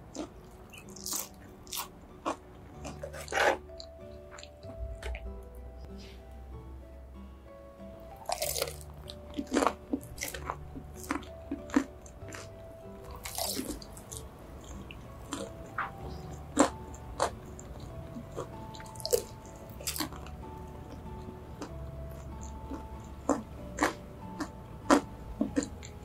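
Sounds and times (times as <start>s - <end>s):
crunching fried chicken: 0.0s - 5.3s, 8.2s - 26.0s
soft background music: 0.0s - 26.0s.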